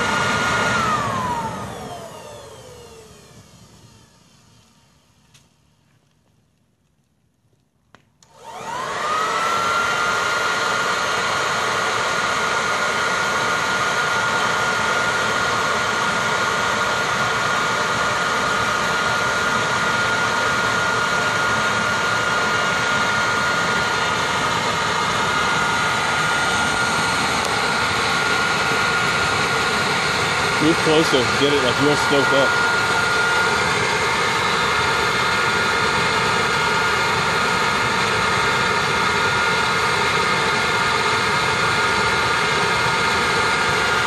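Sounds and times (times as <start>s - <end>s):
electric leaf blower whining: 0.0s - 6.3s, 7.9s - 44.0s.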